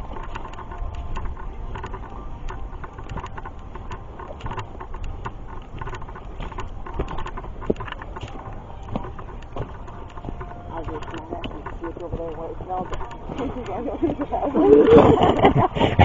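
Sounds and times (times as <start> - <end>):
footsteps crunching on trail: 0.0 - 15.4
wind on microphone: 0.0 - 16.0.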